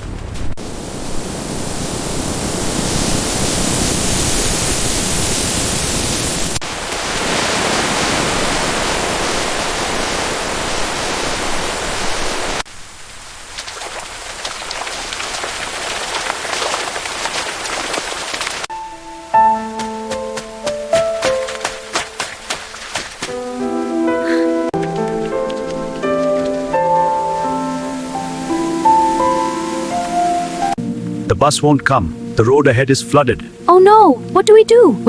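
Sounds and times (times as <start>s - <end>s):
raindrops pattering: 0.0s - 23.7s, 24.7s - 30.0s
heavy rain hissing: 0.3s - 32.4s.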